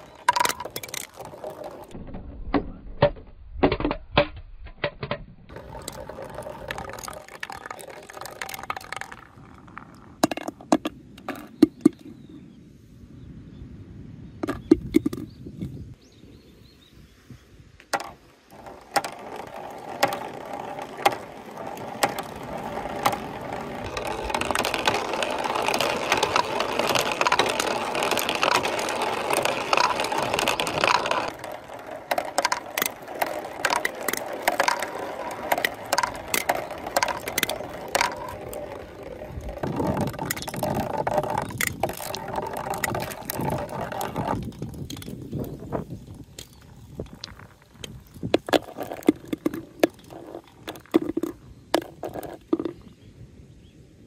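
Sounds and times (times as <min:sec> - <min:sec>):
plastic balls clicking on gutters: 0:00.0 - 0:02.0, 0:03.0 - 0:12.0, 0:14.4 - 0:15.3, 0:17.8 - 0:52.9
balls rolling rumble: 0:00.0 - 0:04.0, 0:05.0 - 0:12.2, 0:14.4 - 0:15.8, 0:17.9 - 0:53.1.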